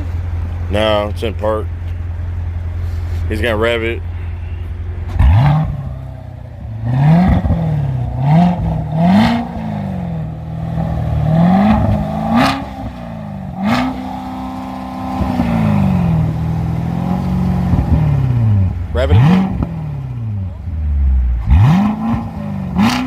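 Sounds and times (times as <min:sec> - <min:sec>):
car engine revving: 0:00.0 - 0:23.0
exhaust cracks: 0:00.0 - 0:23.0.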